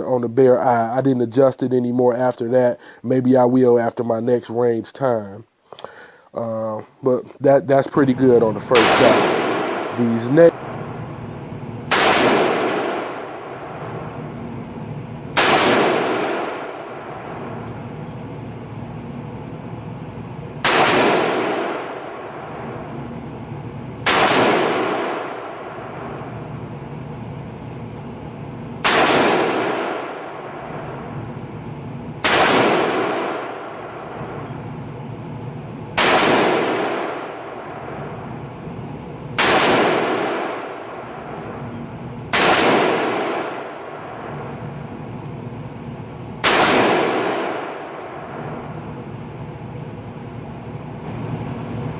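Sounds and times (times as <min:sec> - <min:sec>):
rifle shots echoing: 0:08.2 - 0:51.3.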